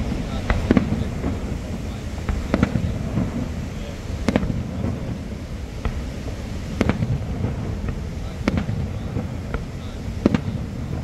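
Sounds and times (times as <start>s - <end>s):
fireworks bursting: 0.0s - 11.0s
low rumble: 0.0s - 11.0s.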